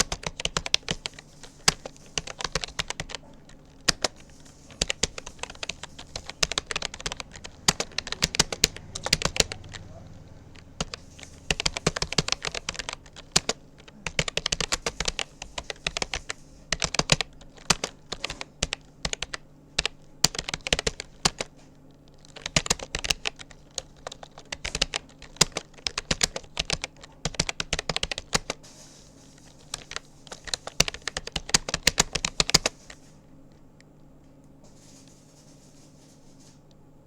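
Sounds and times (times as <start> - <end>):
computer keyboard key clicks: 0.0 - 9.9, 10.5 - 21.5, 22.2 - 28.6, 29.5 - 32.8.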